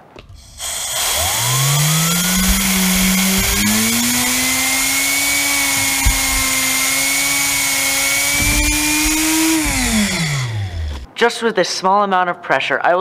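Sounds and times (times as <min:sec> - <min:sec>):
turbine whine: 0:00.2 - 0:11.1
air rushing hiss: 0:00.3 - 0:10.8.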